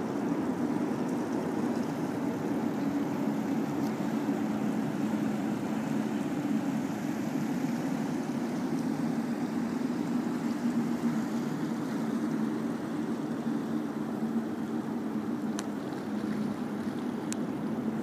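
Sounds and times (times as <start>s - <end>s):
river water flowing over rocks: 0.0s - 18.0s.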